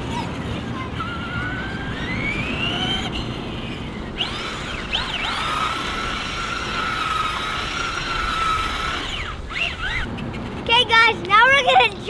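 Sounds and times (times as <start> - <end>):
electric toy truck motor whining: 0.0 - 10.6.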